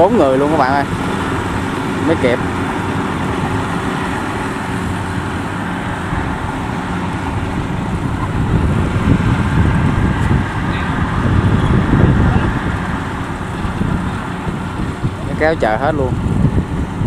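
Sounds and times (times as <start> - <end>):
combine harvester droning: 0.0 - 17.0
low rumble: 0.0 - 17.0.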